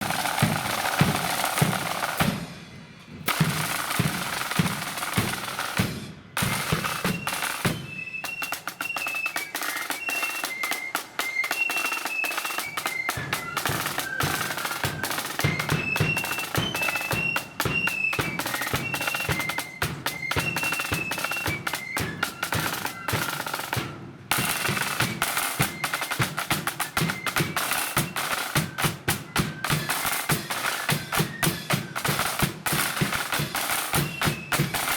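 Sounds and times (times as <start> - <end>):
high flutes playing tune: 0.0 - 2.4, 6.4 - 34.9
snare drum rolls: 0.0 - 34.9.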